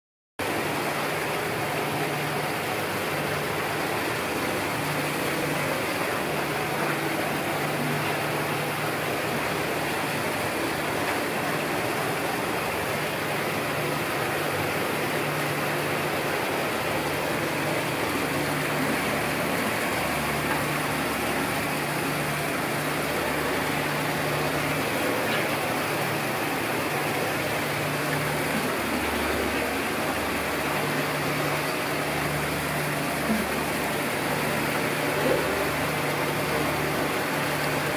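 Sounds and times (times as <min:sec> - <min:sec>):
waterfall rushing into pool: 0:00.4 - 0:37.9.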